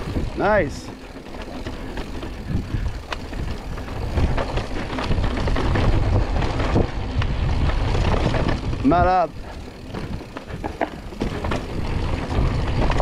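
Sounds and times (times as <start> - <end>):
bike rattling and knocking: 0.0 - 13.0
bike tyres on dirt and rock: 0.0 - 13.0.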